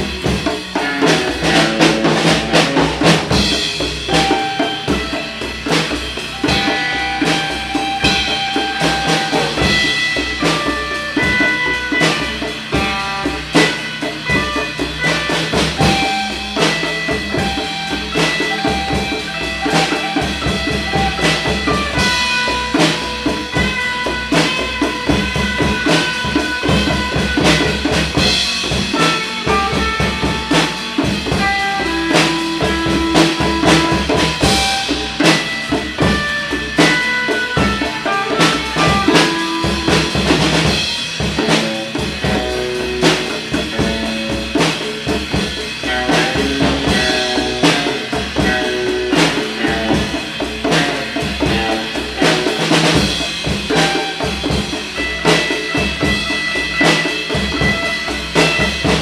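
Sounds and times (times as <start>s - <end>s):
drum kit: 0.0s - 59.0s
slow blues band music: 0.0s - 59.0s.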